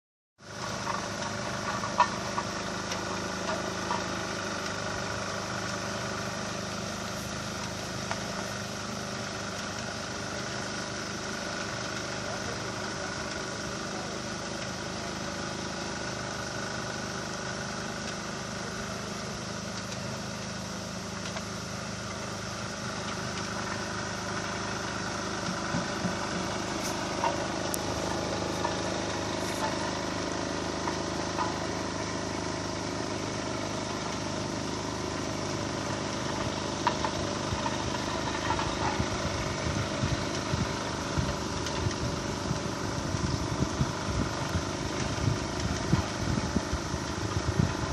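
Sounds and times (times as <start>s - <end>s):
engine running: 0.4s - 47.9s.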